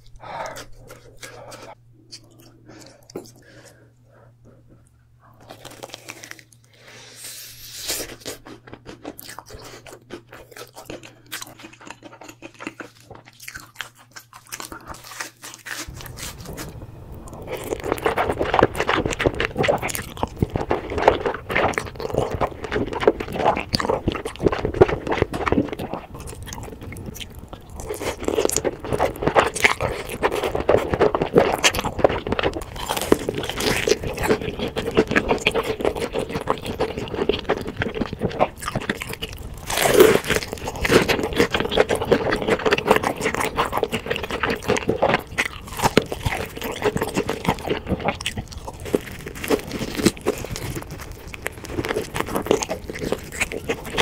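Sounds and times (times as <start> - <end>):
close eating and chewing: 0.0 - 54.0.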